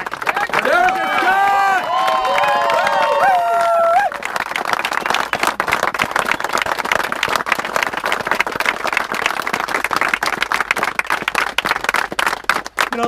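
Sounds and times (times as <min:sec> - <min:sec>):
group of people applauding: 0:00.0 - 0:13.0.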